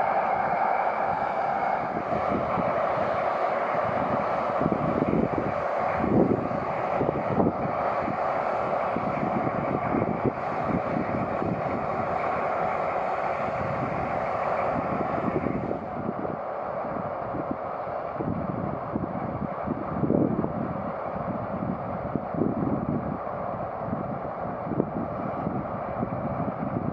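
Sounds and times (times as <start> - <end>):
locomotive diesel engines running: 0.0 - 26.9
wind buffeting microphone: 0.0 - 26.9.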